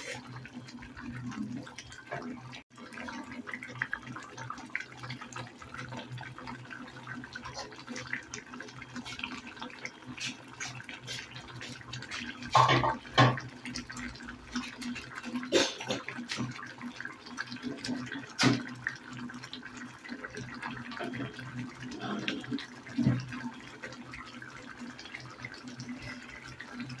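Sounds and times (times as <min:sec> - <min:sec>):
gravy bubbling in a pan: 0:00.0 - 0:27.0.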